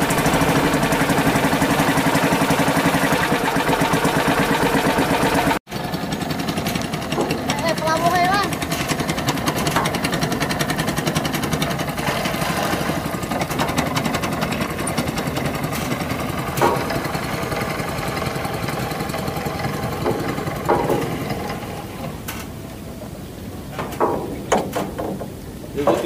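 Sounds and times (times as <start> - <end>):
small engine chugging: 0.0 - 22.4.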